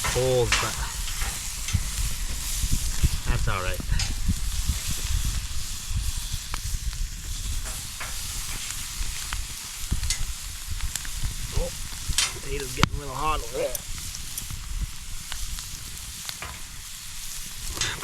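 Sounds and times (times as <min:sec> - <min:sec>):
steak sizzling on a grill: 0:00.0 - 0:18.0.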